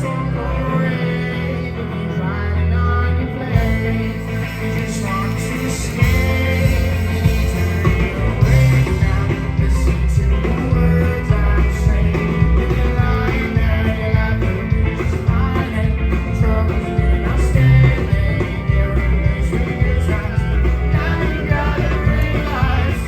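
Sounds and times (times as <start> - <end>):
electric guitars: 0.0 - 23.0
bass and drum groove: 3.5 - 23.0.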